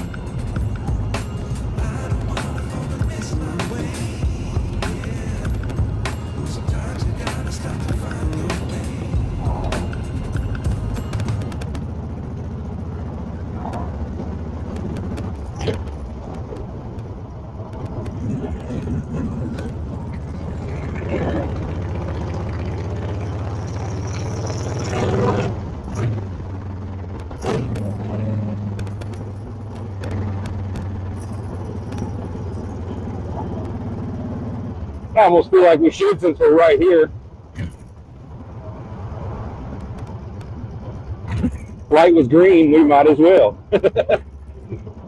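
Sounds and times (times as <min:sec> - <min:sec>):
motorcycle engine running: 0:00.0 - 0:42.8.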